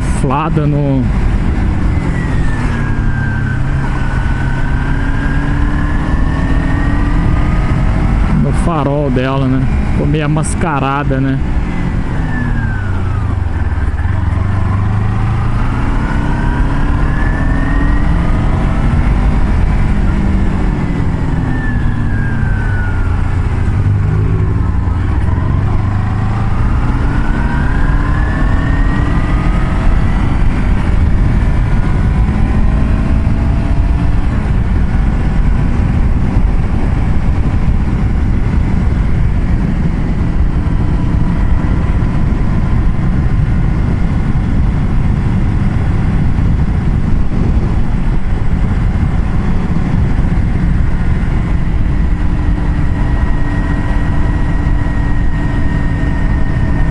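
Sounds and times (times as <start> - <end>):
road and wind noise: 0.0 - 56.9
vehicle engine running: 0.0 - 56.9.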